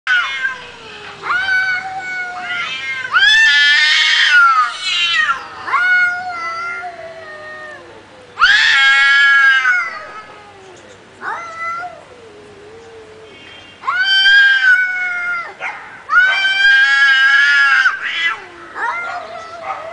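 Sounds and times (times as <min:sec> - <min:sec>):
cats yowling: 0:00.1 - 0:19.9.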